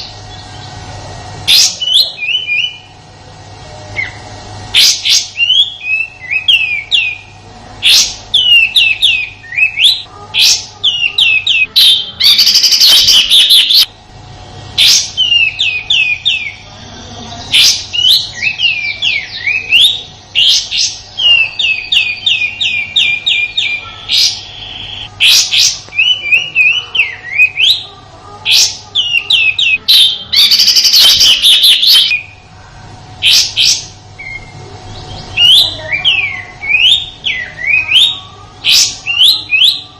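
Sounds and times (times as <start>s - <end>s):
rasping buzzy bird call: 0.0s - 3.0s, 3.8s - 13.9s, 14.5s - 32.4s, 33.2s - 39.9s.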